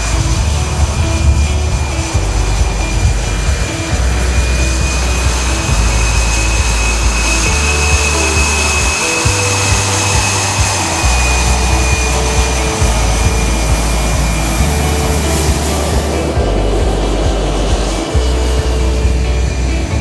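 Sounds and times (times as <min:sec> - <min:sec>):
background music with deep bass: 0:00.0 - 0:20.0
jet engine whine and hiss: 0:00.0 - 0:20.0.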